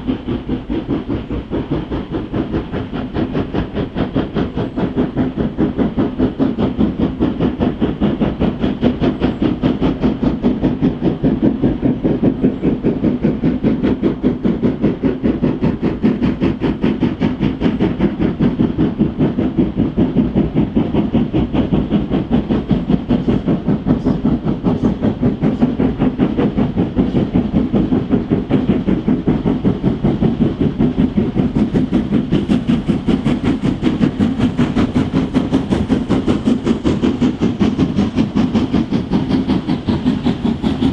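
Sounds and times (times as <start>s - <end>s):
steam locomotive exhaust beating: 0.0s - 40.9s.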